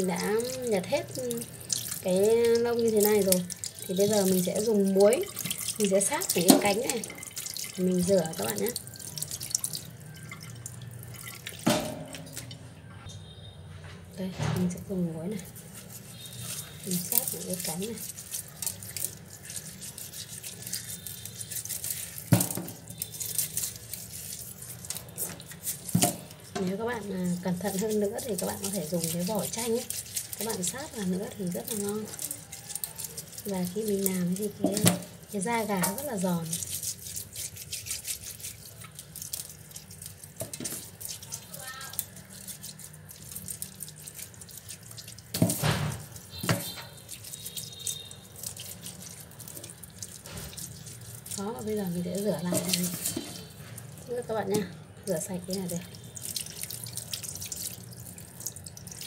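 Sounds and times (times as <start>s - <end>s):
hands scrubbing wet chicken: 0.0s - 12.6s, 14.6s - 59.0s
water splashing: 0.0s - 12.7s, 14.6s - 59.0s.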